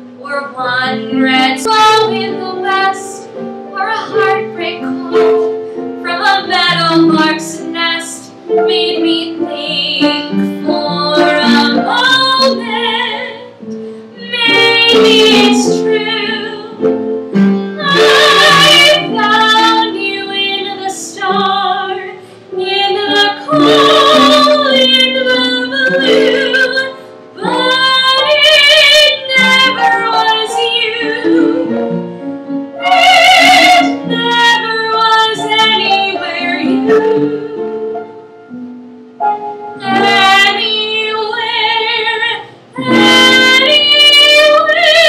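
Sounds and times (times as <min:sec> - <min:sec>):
instrumental accompaniment: 0:00.0 - 0:45.0
woman singing with vibrato: 0:00.2 - 0:17.0, 0:17.6 - 0:38.0, 0:39.8 - 0:45.0.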